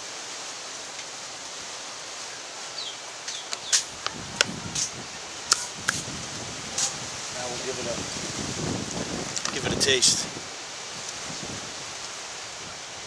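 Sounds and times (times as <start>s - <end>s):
rustling leaves: 0.0s - 13.0s
wind: 0.0s - 13.0s.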